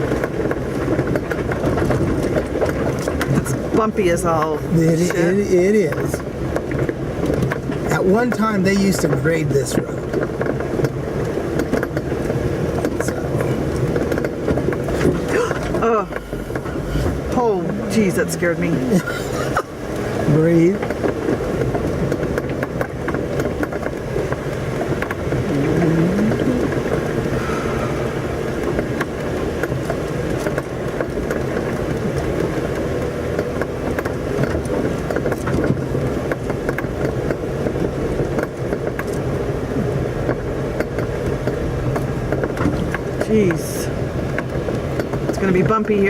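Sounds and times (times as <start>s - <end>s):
knocks and rattles from car body: 0.0s - 4.0s, 5.0s - 17.8s, 18.6s - 25.5s, 26.6s - 46.0s
car engine running at low speed: 0.0s - 46.0s.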